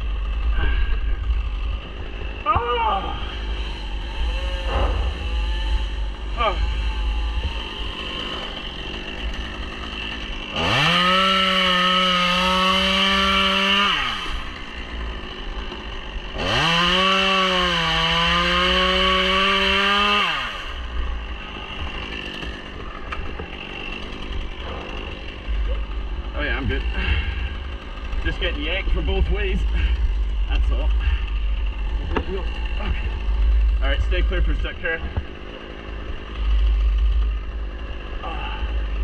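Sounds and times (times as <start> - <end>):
chainsaw idling: 0.0 - 39.0
chainsaw revving and cutting wood: 0.0 - 39.0.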